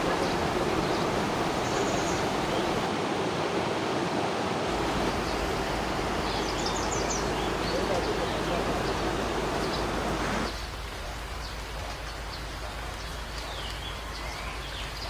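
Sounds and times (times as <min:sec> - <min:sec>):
river rapids rushing: 0:00.0 - 0:13.2.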